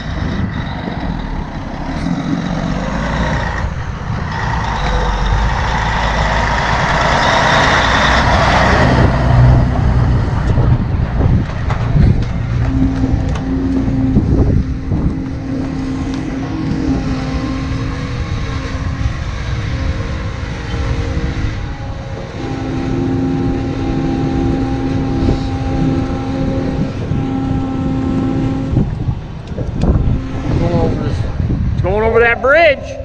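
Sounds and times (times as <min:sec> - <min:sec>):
farm machine diesel engine running: 0:00.0 - 0:32.6.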